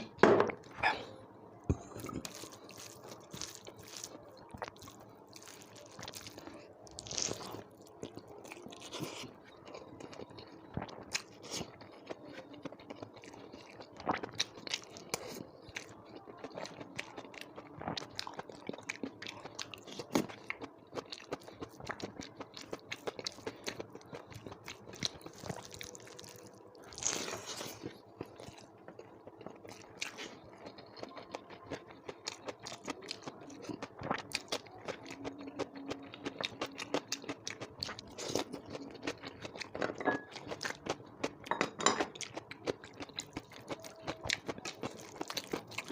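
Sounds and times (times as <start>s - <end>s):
person chewing food: 1.7s - 45.9s.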